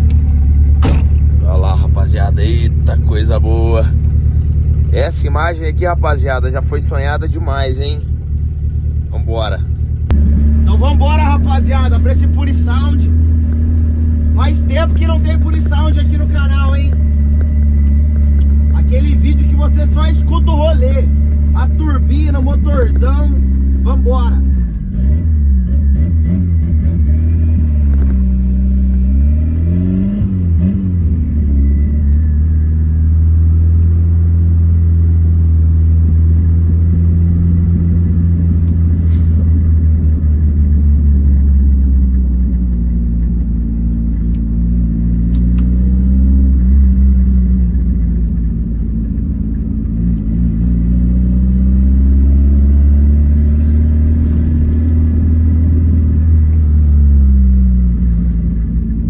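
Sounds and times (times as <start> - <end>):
car engine droning at low revs: 0.0 - 59.0.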